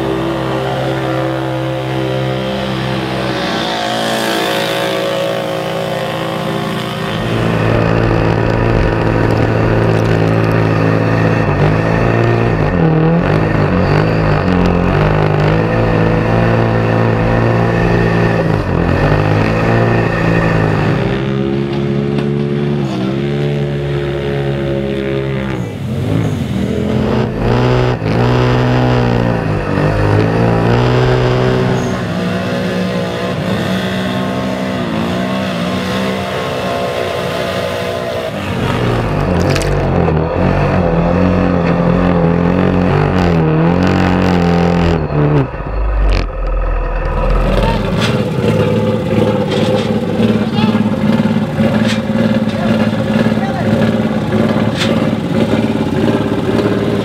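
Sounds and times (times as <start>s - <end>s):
engine revving hard: 0.0s - 57.0s.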